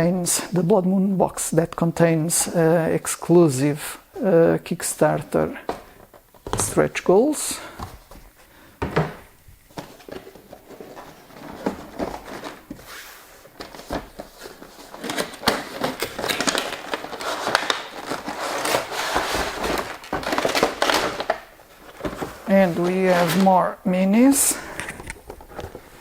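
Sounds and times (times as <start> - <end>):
cardboard and plastic packaging rustling: 1.4 - 26.0.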